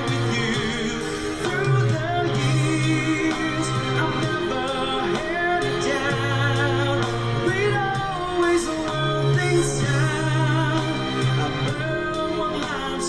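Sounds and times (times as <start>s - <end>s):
karaoke backing track: 0.0s - 13.0s
man singing into a microphone: 0.0s - 13.0s.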